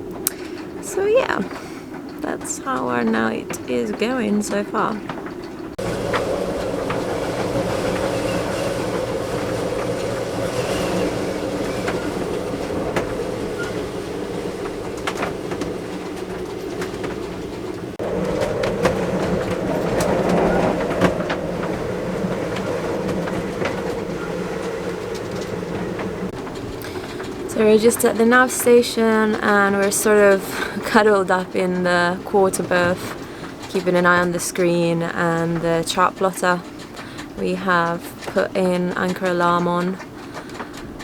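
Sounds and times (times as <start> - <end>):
boat knocks and clatters: 0.0 - 41.0
rigging droning: 0.0 - 41.0
strong wind roaring: 0.0 - 41.0.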